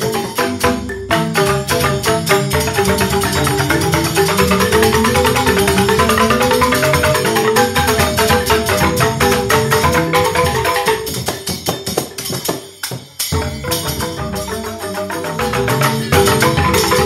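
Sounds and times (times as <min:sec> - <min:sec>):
bamboo gamelan playing: 0:00.0 - 0:17.0.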